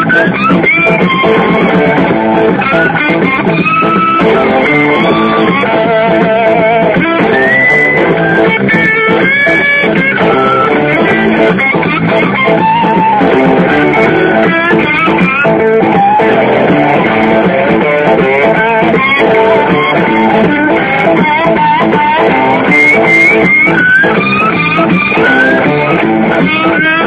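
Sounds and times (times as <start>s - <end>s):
guitar chords: 0.0s - 27.0s
guitar lead bending in pitch: 0.0s - 27.0s.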